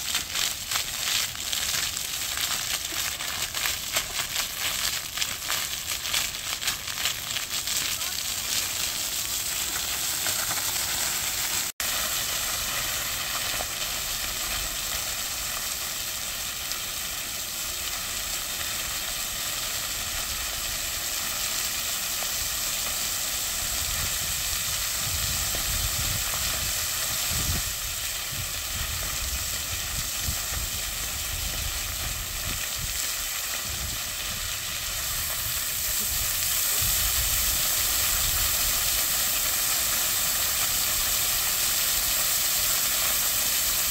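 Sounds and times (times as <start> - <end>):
fountain water splashing on stone: 0.0 - 43.9.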